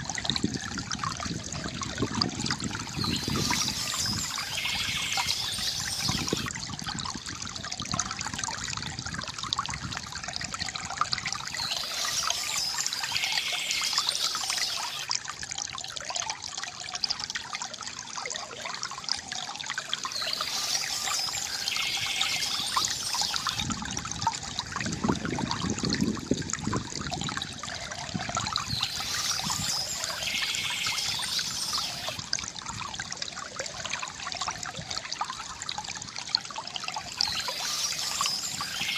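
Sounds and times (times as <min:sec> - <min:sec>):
fountain water trickling: 0:00.0 - 0:38.9.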